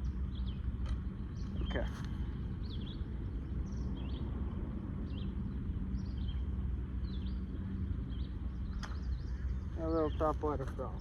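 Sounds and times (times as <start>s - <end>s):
low rumble with hum: 0.0s - 11.0s
small birds chirping: 0.0s - 11.0s.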